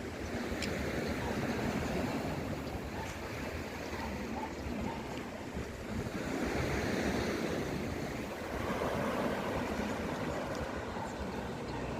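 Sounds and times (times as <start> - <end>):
surf washing onto shore: 0.0 - 11.9
wind rumbling on microphone: 0.0 - 11.9.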